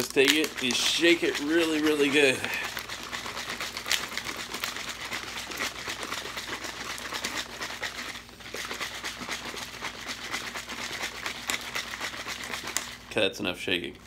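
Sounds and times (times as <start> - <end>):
liquid sloshing in shaken bottle: 0.0 - 13.2.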